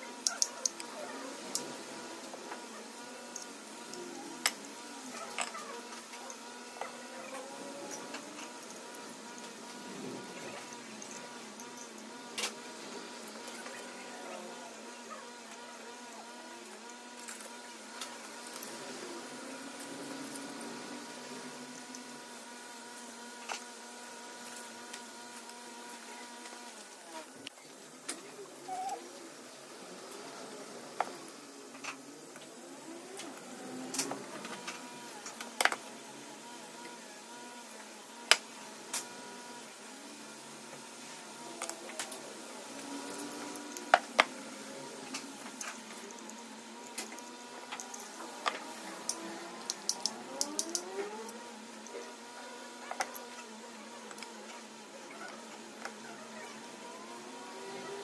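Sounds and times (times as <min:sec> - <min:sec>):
buzzing hum: 0:00.0 - 0:58.0.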